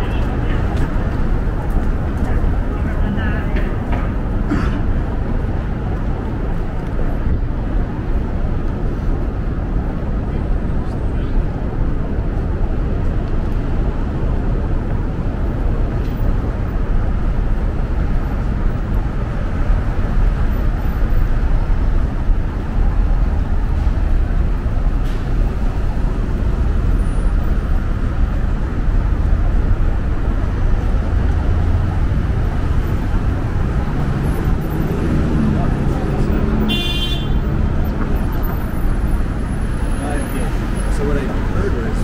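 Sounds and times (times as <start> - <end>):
city traffic rumble: 0.0 - 42.0.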